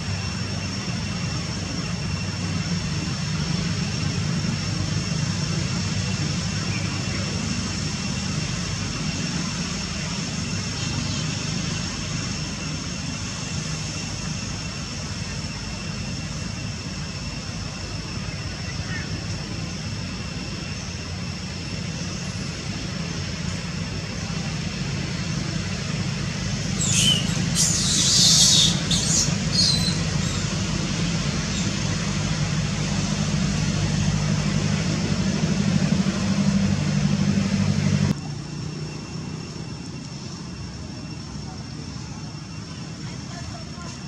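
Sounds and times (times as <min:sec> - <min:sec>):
low engine drone: 0:00.0 - 0:44.0.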